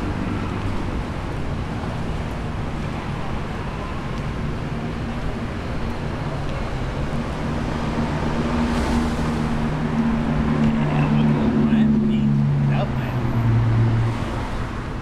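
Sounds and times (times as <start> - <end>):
street traffic: 0.0 - 15.0
vehicle engine humming nearby: 0.0 - 15.0.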